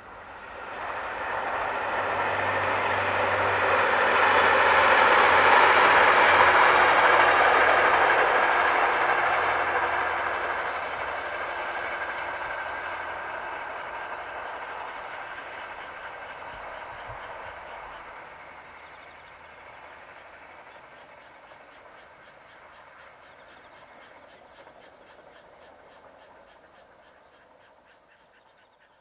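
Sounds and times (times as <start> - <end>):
passenger train passing: 0.0 - 29.0.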